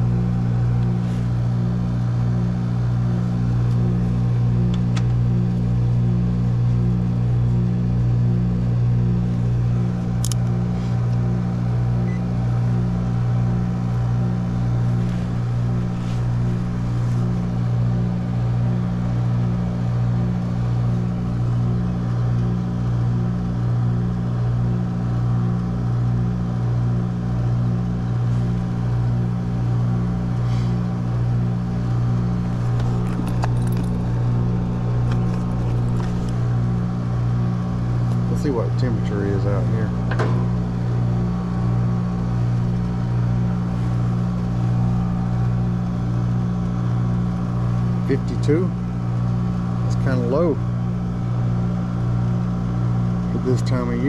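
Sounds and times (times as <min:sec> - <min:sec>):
heat pump compressor hum: 0:00.0 - 0:54.0.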